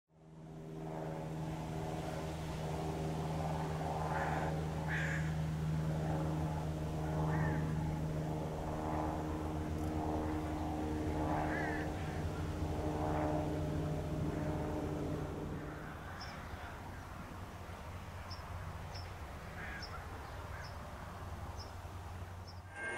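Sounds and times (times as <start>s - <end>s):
low mechanical drone: 0.2s - 22.9s.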